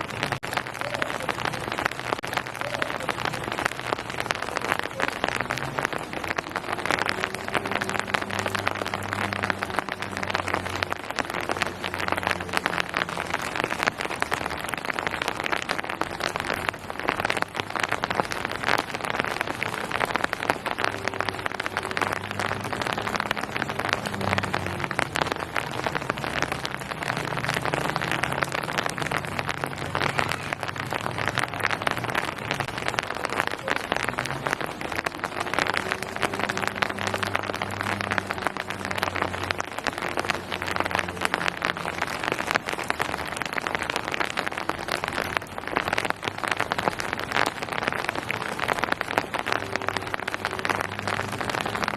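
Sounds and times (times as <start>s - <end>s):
heavy rain on hard surface: 0.0s - 51.9s.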